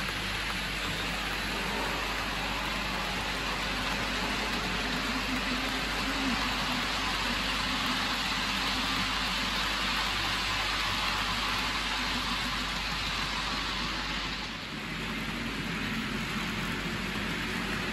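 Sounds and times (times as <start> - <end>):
faint motor hum: 0.0 - 17.9
model train wheels on rail: 0.0 - 17.9.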